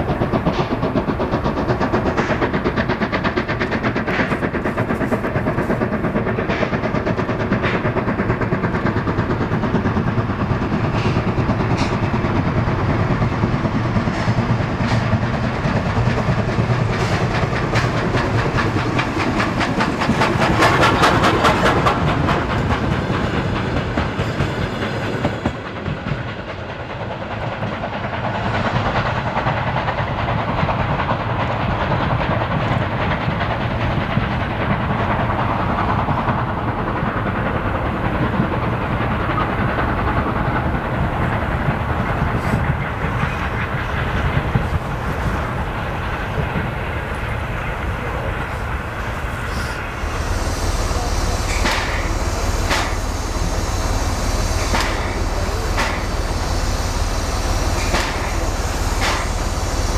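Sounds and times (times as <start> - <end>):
steady steam rush: 0.0 - 59.9
steam locomotive exhaust chuffs: 0.0 - 59.9
train wheels clattering over rail joints: 0.0 - 59.9.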